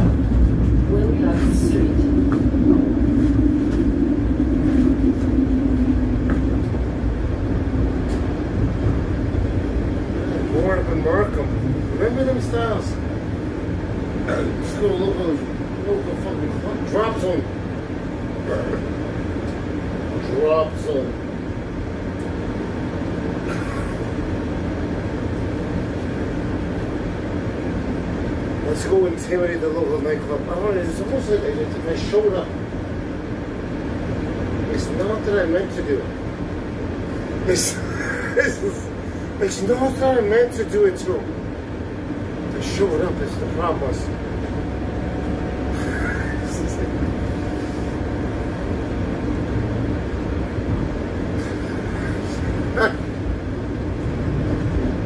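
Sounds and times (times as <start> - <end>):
streetcar interior rumble: 0.0 - 55.0.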